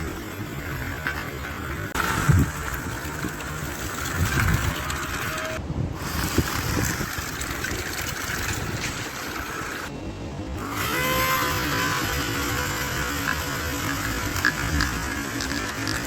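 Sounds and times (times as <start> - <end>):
toy motor whirring and rattling: 0.0 - 9.9, 10.6 - 16.0.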